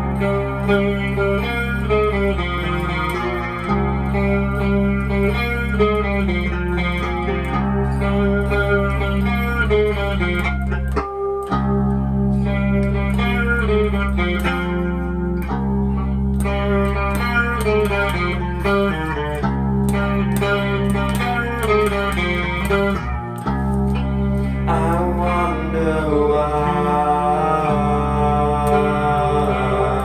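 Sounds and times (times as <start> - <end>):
electric guitar melody: 0.0 - 30.0
low bass line: 0.0 - 30.0.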